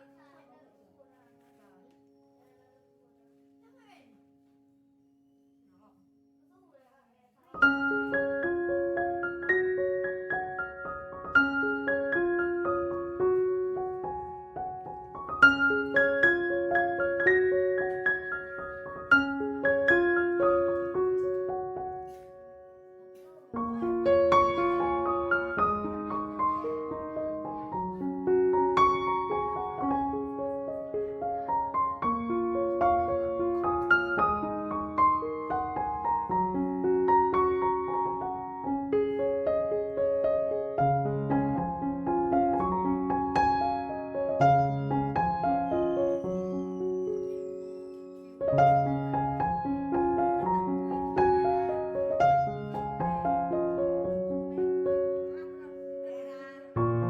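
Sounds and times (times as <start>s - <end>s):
piano music: 7.6s - 57.0s.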